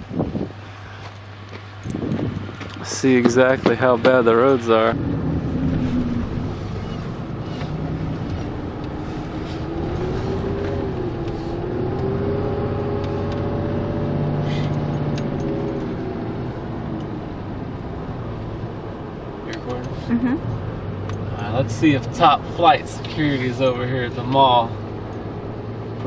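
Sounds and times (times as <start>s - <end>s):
truck engine running: 0.9s - 26.0s.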